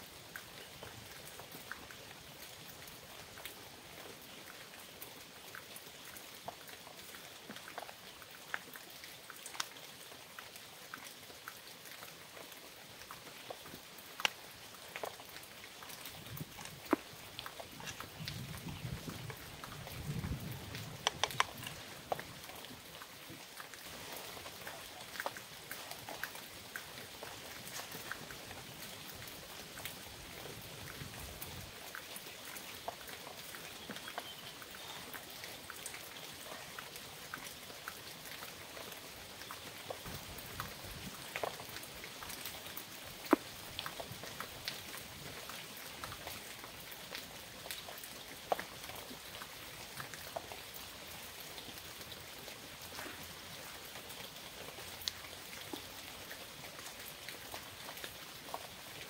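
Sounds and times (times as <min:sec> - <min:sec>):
raindrops tapping close by: 0:00.0 - 0:59.0
steady rain falling: 0:00.0 - 0:59.0.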